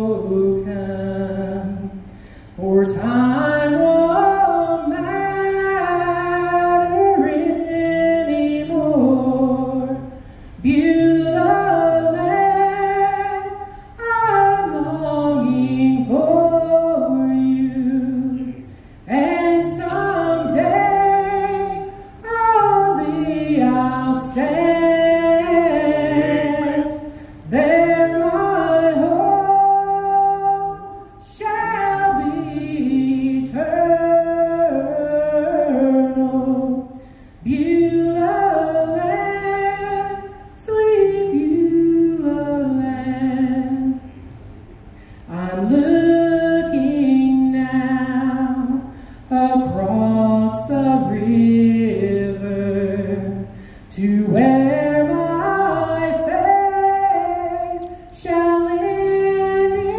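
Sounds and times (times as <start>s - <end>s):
woman singing gospel song: 0.0s - 44.2s, 44.9s - 59.9s.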